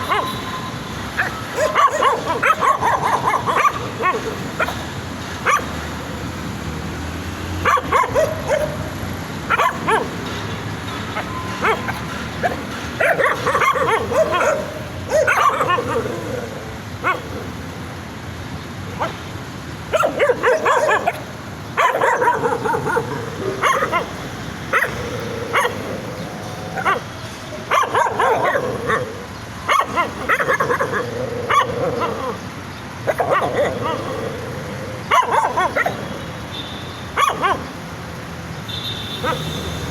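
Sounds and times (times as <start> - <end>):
puppies barking: 0.0 - 6.4, 7.5 - 17.8, 18.9 - 36.5, 37.1 - 38.1, 39.2 - 39.9.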